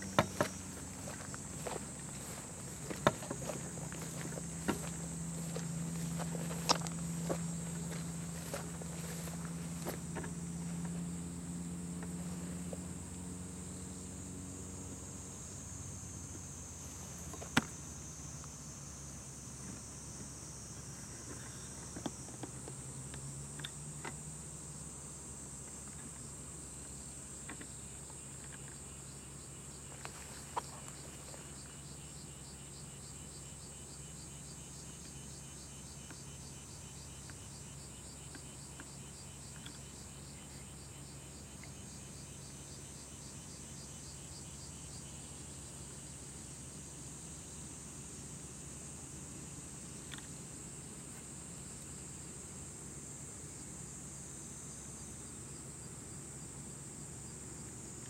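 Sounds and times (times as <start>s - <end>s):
high-pitched insect chorus: 0.0s - 58.0s
rapidly pulsing insect call: 0.0s - 58.0s.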